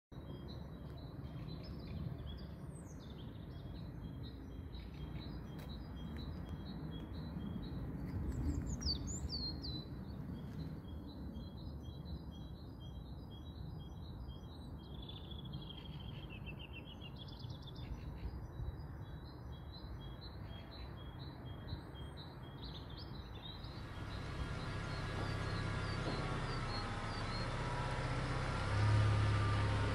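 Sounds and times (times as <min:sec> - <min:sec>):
small birds chirping: 0:00.2 - 0:29.9.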